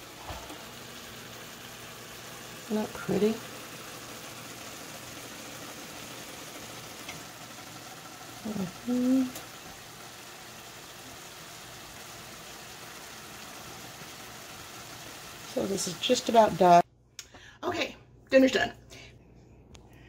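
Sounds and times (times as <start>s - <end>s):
shrimp sizzling in a frying pan: 0.0s - 16.8s.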